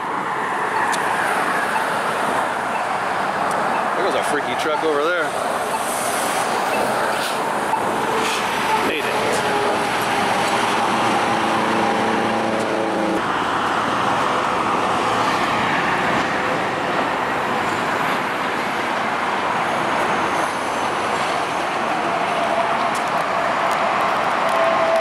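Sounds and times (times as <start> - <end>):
tyres rushing on highway: 0.0 - 25.0
vehicle engine hum: 0.0 - 25.0.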